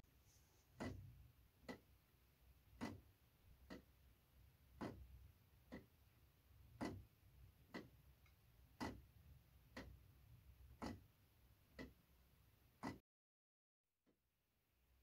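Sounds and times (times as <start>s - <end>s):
pendulum clock ticking: 0.8s - 13.0s.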